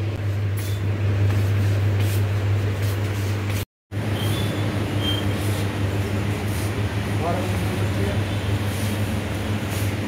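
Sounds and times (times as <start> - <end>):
general supermarket noise: 0.0 - 10.0.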